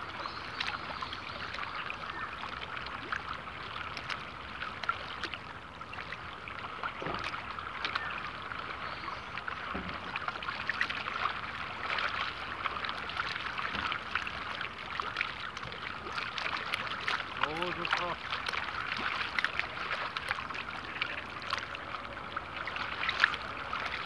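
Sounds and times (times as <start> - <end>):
small waves lapping and splashing: 0.0 - 24.0.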